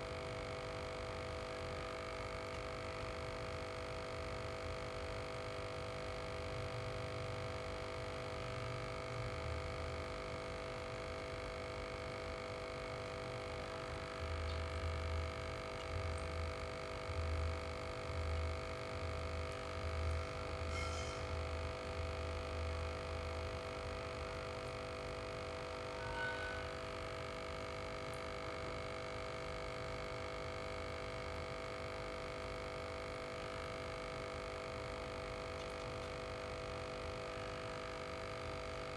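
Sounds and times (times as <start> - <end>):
aquarium air pump humming: 0.0 - 38.9.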